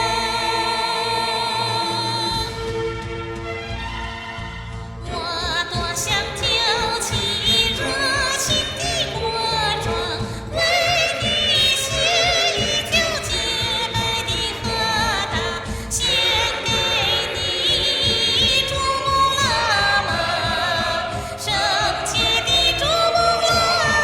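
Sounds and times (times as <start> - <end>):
backing track music: 0.0 - 24.0.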